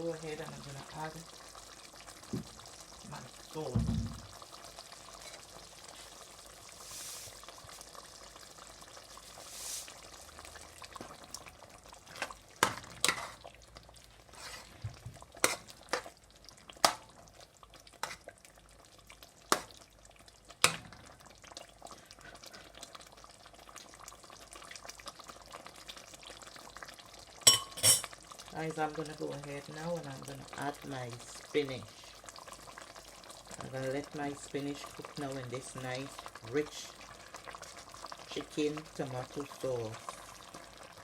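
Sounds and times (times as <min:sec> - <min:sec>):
stew bubbling in a pot: 0:00.0 - 0:41.0.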